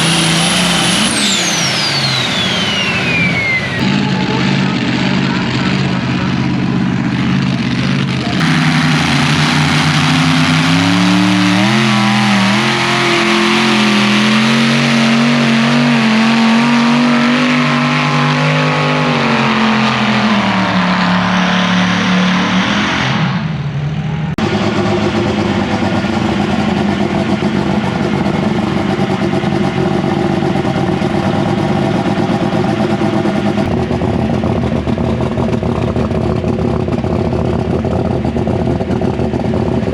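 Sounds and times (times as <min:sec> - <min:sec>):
high turbo whine: 0:00.0 - 0:39.9
rough engine running: 0:00.0 - 0:39.9
tractor engine at full throttle: 0:00.0 - 0:39.9.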